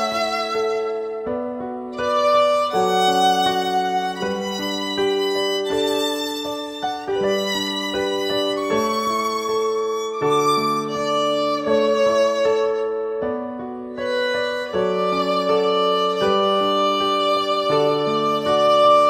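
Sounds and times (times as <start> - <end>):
slow violin music: 0.0 - 19.0.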